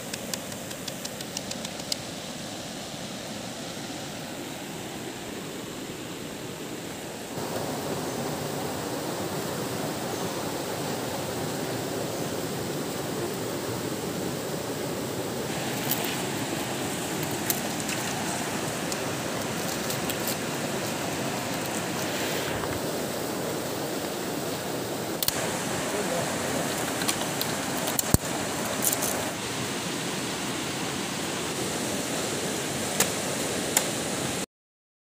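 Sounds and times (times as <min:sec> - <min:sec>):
flowing river water: 0:00.0 - 0:34.4.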